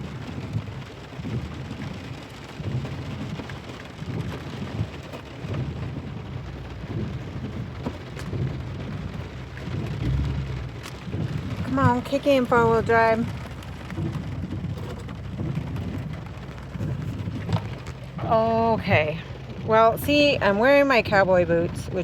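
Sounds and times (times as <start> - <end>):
car engine rumble: 0.0 - 22.0
rain ticking on car: 0.0 - 22.0.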